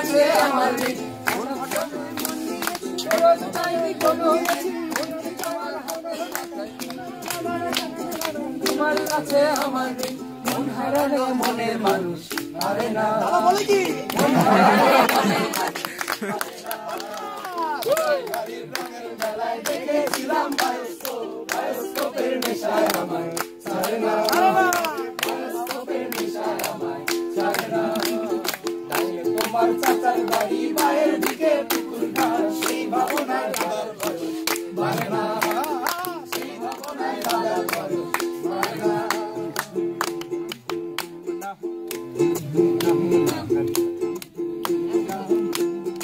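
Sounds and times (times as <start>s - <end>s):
group of voices singing: 0.0s - 40.5s, 42.3s - 46.0s
ukulele strumming: 0.0s - 46.0s.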